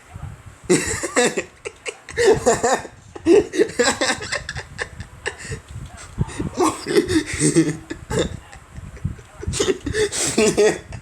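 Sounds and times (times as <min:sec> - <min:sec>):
voices laughing: 0:00.7 - 0:11.0.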